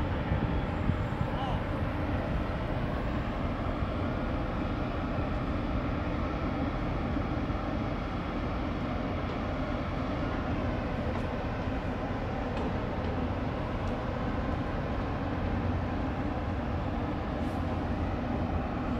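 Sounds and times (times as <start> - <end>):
ship engine rumbling drone: 0.0 - 18.9.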